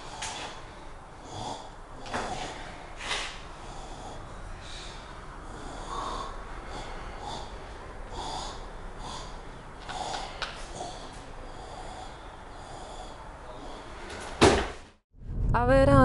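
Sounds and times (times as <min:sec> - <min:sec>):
person breathing heavily: 0:00.0 - 0:14.2.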